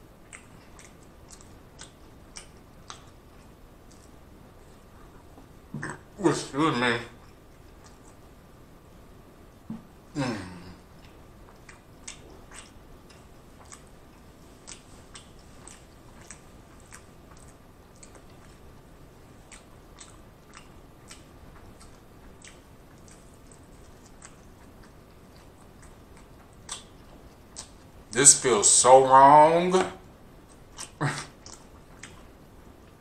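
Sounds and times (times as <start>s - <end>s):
person chewing food: 0.1s - 6.2s, 7.2s - 8.4s, 9.6s - 28.1s, 30.0s - 33.0s.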